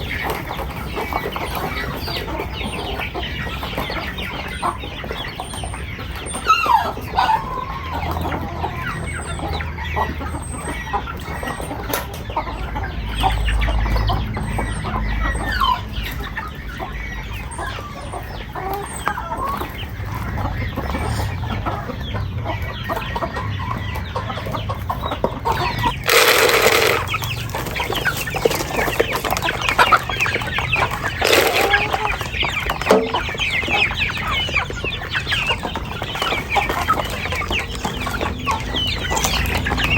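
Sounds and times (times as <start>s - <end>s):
loud harsh chicken calls: 0.0s - 12.0s, 17.2s - 39.9s
chickens clucking: 0.0s - 39.9s.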